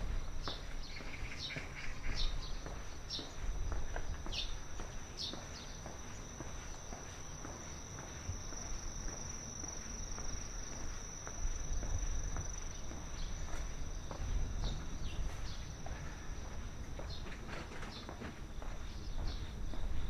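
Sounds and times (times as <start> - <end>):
footsteps walking: 0.0 - 20.0
insects trilling: 0.0 - 20.0.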